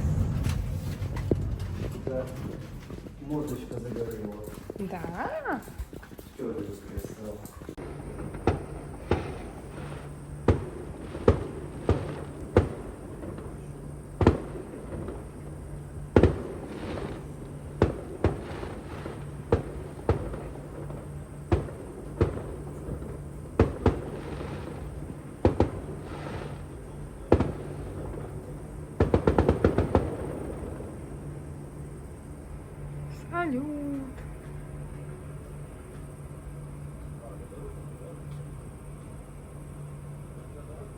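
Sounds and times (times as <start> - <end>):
fireworks bangs: 0.0 - 34.2
fireworks crackling: 0.0 - 38.5.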